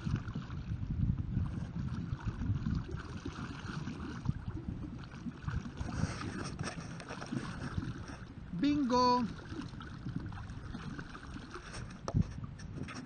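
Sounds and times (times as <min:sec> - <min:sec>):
low uneven rumble: 0:00.0 - 0:13.0
paddles splashing water: 0:00.0 - 0:13.0.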